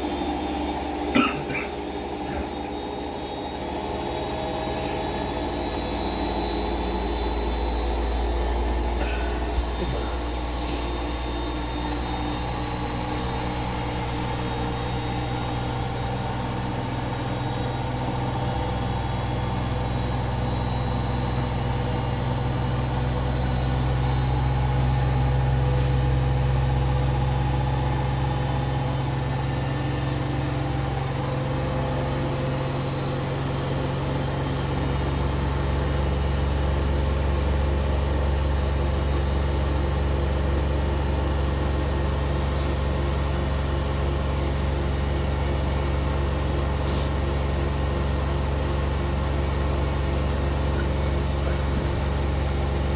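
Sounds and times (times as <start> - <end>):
washing machine spinning: 0.0 - 52.9.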